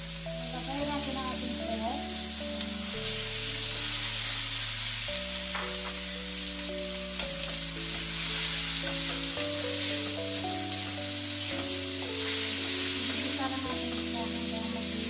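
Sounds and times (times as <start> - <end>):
meat sizzling in oil: 0.0 - 15.0
soft music with sustained chords: 0.0 - 15.0.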